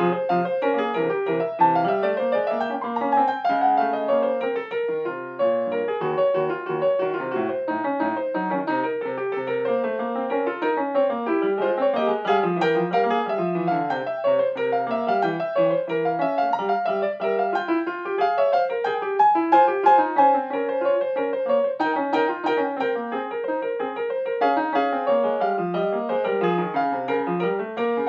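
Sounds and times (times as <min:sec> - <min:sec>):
grand piano playing: 0:00.0 - 0:28.0.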